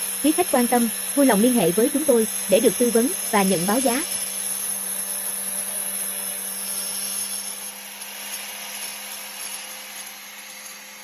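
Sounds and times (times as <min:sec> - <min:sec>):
tile saw motor whining: 0:00.0 - 0:11.0.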